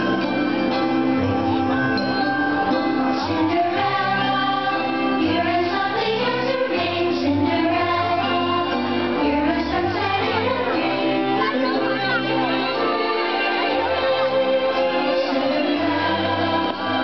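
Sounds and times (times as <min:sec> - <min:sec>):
soundtrack music with choir: 0:00.0 - 0:17.0.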